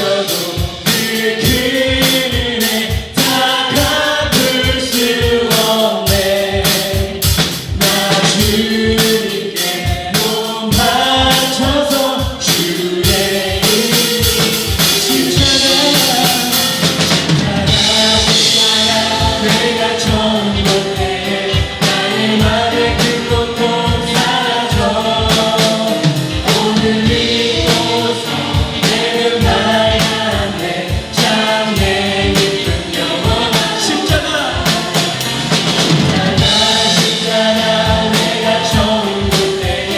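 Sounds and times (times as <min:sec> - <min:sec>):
drum kit steady beat: 0:00.0 - 0:39.9
singers carrying a melody: 0:00.0 - 0:39.9.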